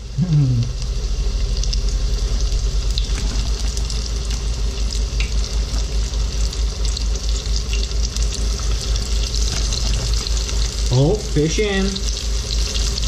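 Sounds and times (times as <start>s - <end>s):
steady low hum: 0.0s - 13.0s
crackles and pops of frying: 0.7s - 13.0s
fish fillets sizzling in hot oil: 0.7s - 13.0s.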